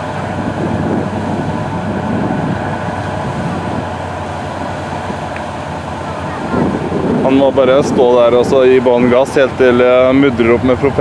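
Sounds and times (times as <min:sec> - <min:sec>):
boat engine at full throttle: 0:00.0 - 0:11.0
propeller churning water: 0:00.0 - 0:11.0.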